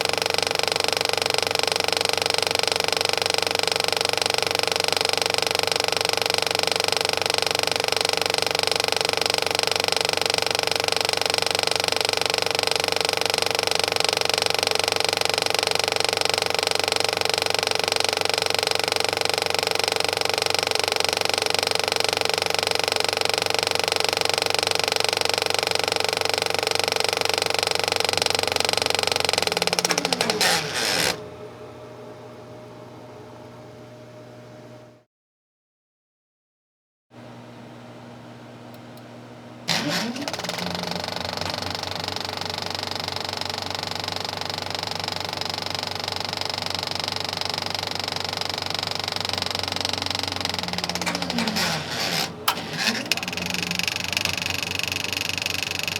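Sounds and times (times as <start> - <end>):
projector whirring: 0.0 - 25.0, 25.6 - 34.9, 37.2 - 55.9.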